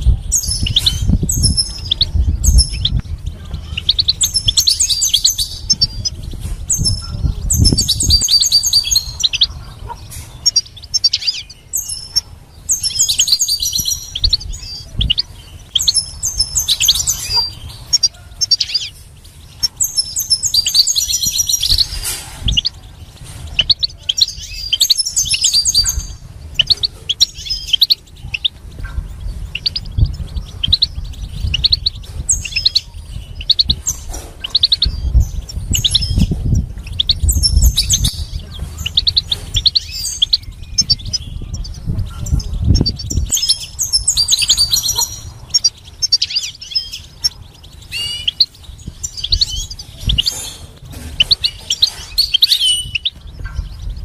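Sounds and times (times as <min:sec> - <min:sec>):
bird twittering and trilling: 0:00.0 - 0:54.0
low rumble: 0:00.0 - 0:54.0.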